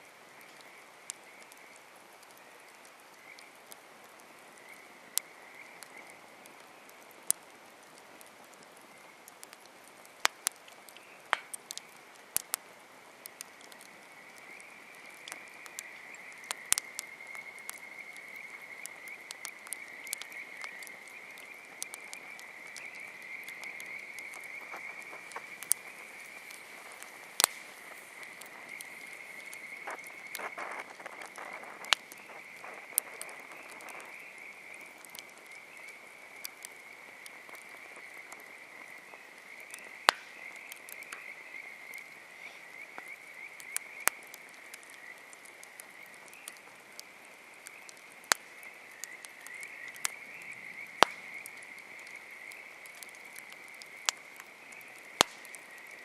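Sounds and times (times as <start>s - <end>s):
campfire popping and crackling: 0.0s - 56.0s
frogs trilling: 0.4s - 7.1s, 13.2s - 56.0s.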